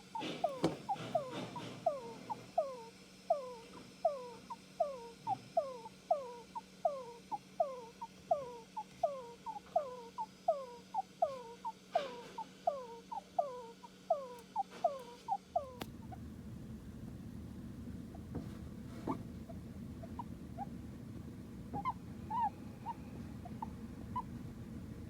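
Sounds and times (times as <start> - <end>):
hamster squeaking: 0.0 - 16.2, 18.1 - 20.9, 21.7 - 24.7.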